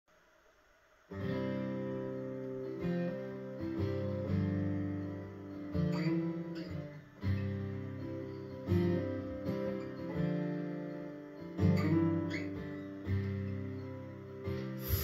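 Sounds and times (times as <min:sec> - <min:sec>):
acoustic guitar strumming chords: 0:01.1 - 0:15.0.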